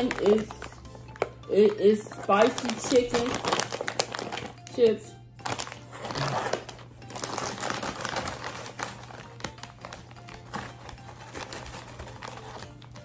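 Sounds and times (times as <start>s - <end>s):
plastic bag crinkling: 0.0s - 1.2s, 2.1s - 4.7s, 5.4s - 13.0s.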